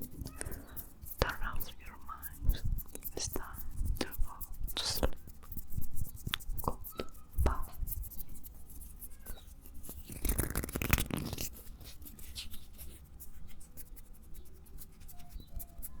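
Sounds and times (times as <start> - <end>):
light scratching and tapping: 0.0 - 16.0.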